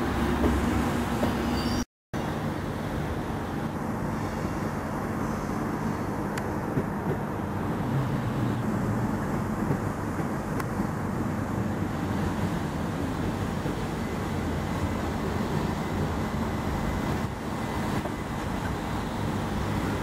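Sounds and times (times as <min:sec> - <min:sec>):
train rolling rumble: 0:00.0 - 0:20.0.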